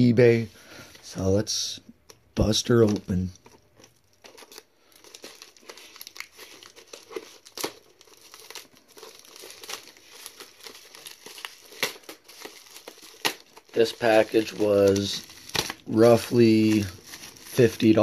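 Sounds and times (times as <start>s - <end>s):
plastic bag crinkling and tearing: 2.7s - 18.0s.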